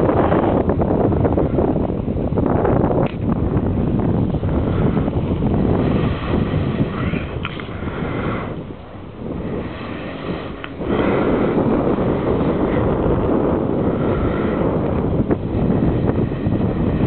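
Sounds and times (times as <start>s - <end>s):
model airplane motor drone: 0.0s - 17.0s
wind buffeting microphone: 0.0s - 17.0s.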